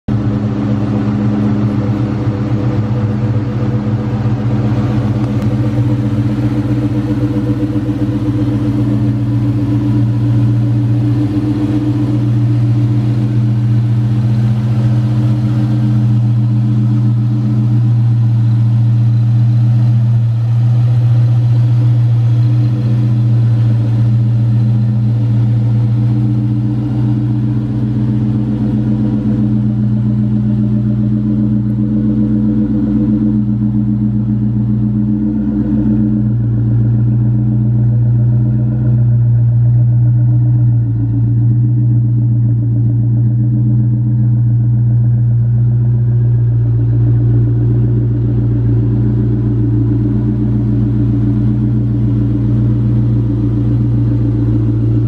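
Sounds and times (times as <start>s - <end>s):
car engine idling: 0.1s - 55.0s.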